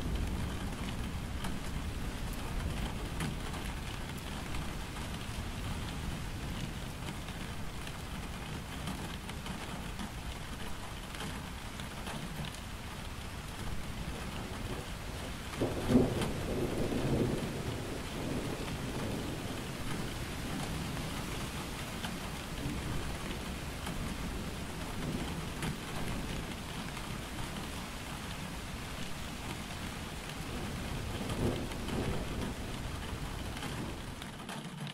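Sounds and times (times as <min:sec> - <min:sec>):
thunder rumbling: 0:00.0 - 0:34.3
rain on leaves and road: 0:00.0 - 0:34.9.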